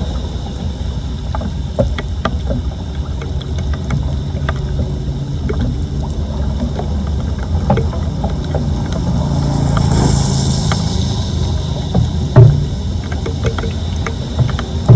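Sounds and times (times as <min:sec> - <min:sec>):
floodwater sloshing and draining: 0:00.0 - 0:14.9
small splashes: 0:00.0 - 0:14.9.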